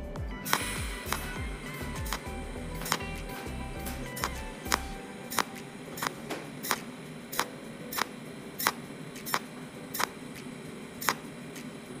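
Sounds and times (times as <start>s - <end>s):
welding electrode clicking: 0.4s - 12.0s.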